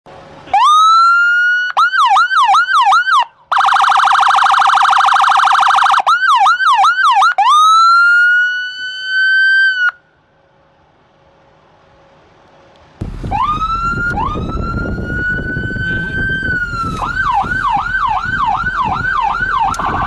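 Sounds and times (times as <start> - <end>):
ambulance siren switching modes: 0.5 - 10.0, 13.0 - 20.0.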